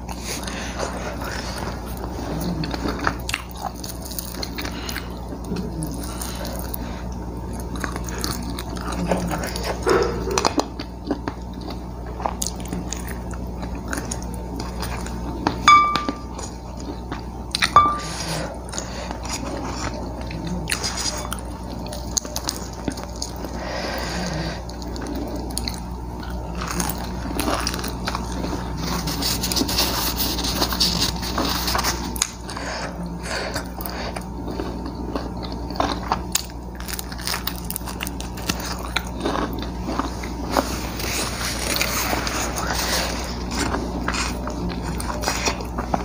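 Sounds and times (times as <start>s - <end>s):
person chewing: 0.0s - 46.0s.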